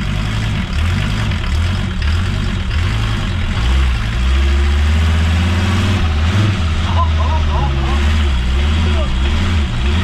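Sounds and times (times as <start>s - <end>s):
diesel engine running under load: 0.0s - 10.0s.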